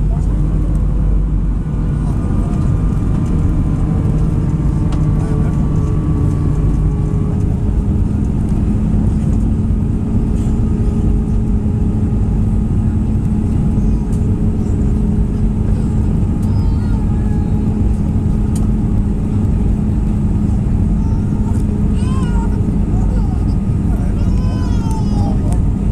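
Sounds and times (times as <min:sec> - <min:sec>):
airplane engine hum: 0:00.0 - 0:25.9.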